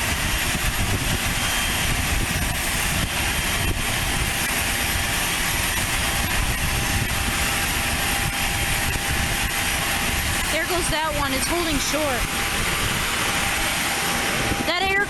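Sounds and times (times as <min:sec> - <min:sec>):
propeller airplane engine drone: 0:00.0 - 0:15.0
wind rumbling on microphone: 0:00.0 - 0:15.0.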